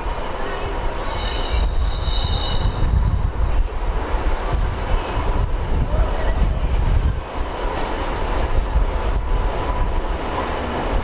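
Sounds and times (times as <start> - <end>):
diesel locomotive engine rumbling: 0.0 - 11.0
wind buffeting microphone: 0.0 - 11.0.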